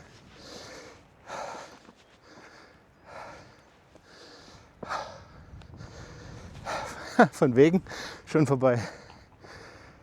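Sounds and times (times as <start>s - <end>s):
person breathing hard: 0.3s - 7.1s, 7.9s - 8.3s, 8.9s - 10.0s.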